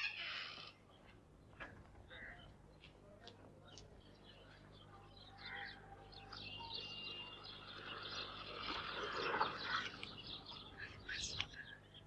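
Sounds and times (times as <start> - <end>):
birds chirping: 0.0 - 12.0
noise: 0.0 - 12.0.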